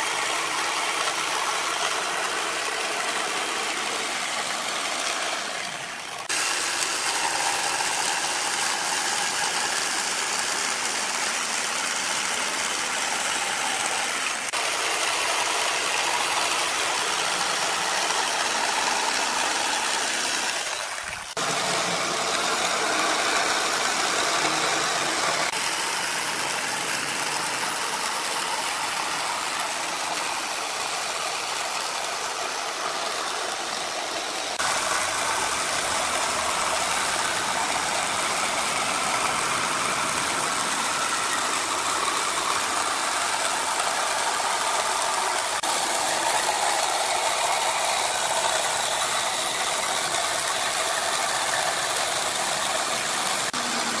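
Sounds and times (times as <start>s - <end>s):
jigsaw cutting wood: 0.0s - 54.0s.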